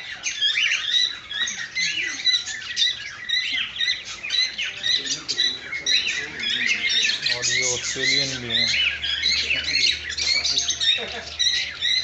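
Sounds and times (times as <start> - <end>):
small parrots chirping and squawking: 0.0 - 12.0.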